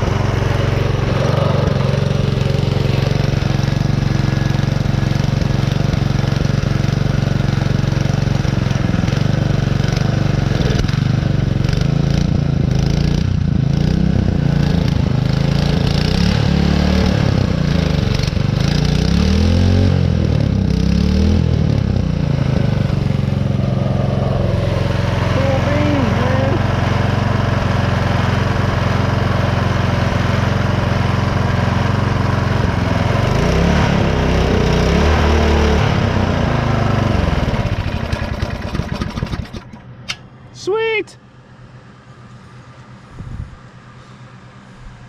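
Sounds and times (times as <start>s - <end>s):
small engine running: 0.0s - 40.1s.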